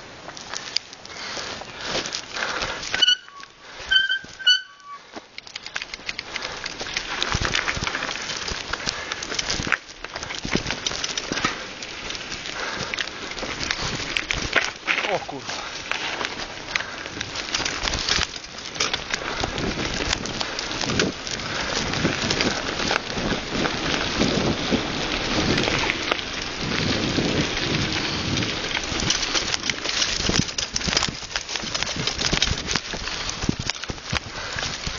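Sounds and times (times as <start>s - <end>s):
bicycle tyres rolling over dirt: 0.0s - 34.9s
bike rattling: 0.0s - 34.9s.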